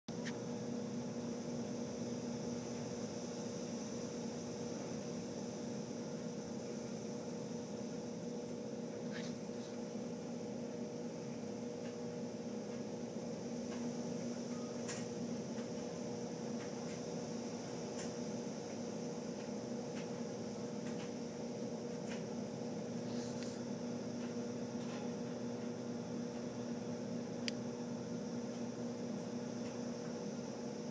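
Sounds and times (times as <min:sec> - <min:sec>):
low mechanical hum: 0:00.1 - 0:30.9.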